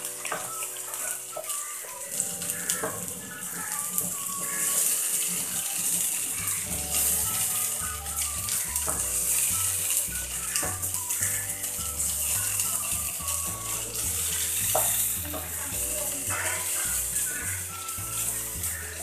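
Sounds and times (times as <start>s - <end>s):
onion and tomato sizzling in a pan: 0.0s - 19.0s
spatula knocking on pan: 2.4s - 7.3s, 8.4s - 18.9s
wooden spatula scraping pan: 2.4s - 19.0s.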